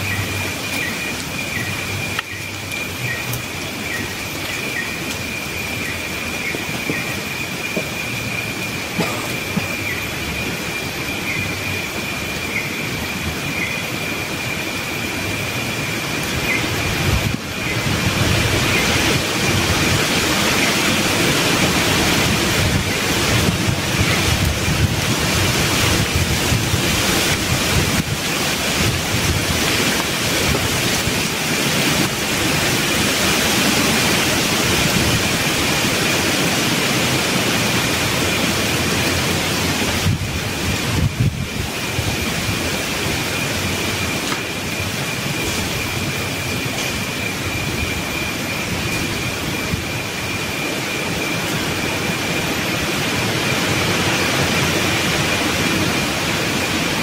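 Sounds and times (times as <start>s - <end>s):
wind rustling leaves: 0.0s - 57.0s.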